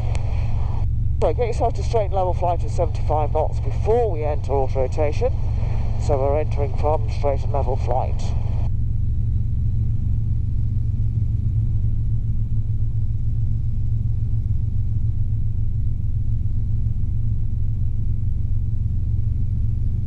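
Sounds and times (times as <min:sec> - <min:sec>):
helicopter engine and rotors droning: 0:00.0 - 0:20.0.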